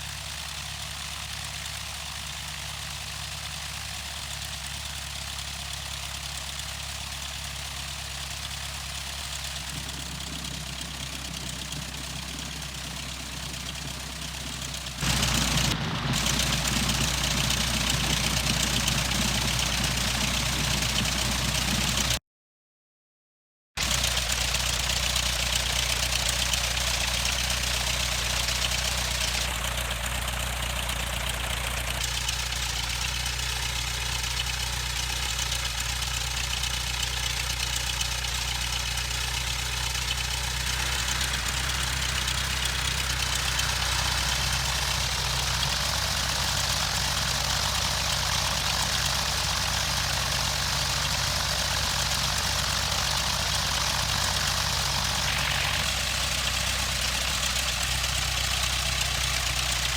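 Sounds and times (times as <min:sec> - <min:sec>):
light aircraft engine idling: 0:00.0 - 0:22.2, 0:23.8 - 0:59.9.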